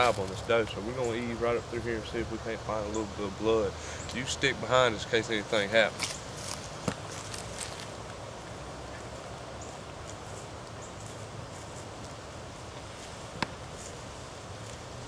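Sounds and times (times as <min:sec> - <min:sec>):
footsteps through dry leaves: 0:00.0 - 0:02.2, 0:04.9 - 0:15.0.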